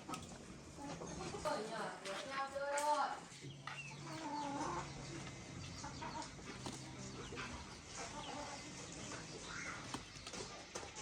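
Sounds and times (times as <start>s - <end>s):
chickens clucking: 0.0s - 2.1s, 3.3s - 11.0s.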